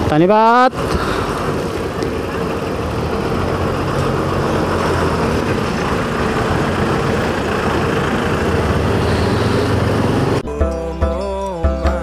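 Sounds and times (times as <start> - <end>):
truck diesel engine: 0.0 - 12.0
motorbike engine: 0.7 - 10.4.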